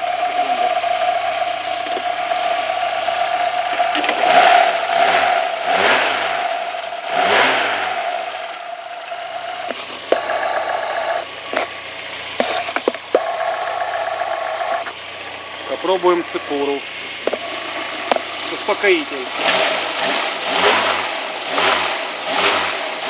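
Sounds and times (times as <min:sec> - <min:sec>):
engine whine and rattle: 0:00.0 - 0:23.0.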